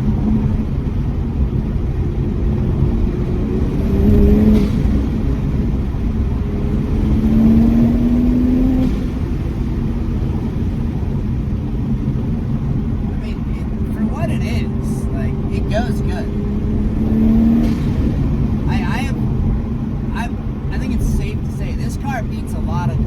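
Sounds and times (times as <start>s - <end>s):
car engine accelerating: 0.0s - 23.0s
wind and road noise: 0.0s - 23.0s.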